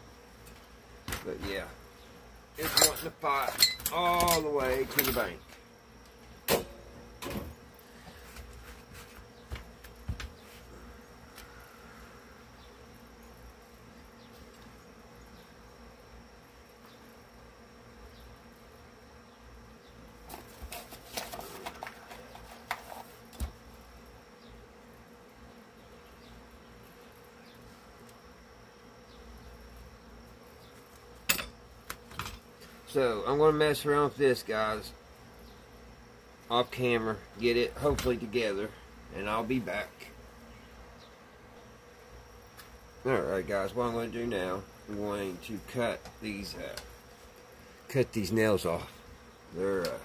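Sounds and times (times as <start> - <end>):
faint high hum: 0.0 - 50.0.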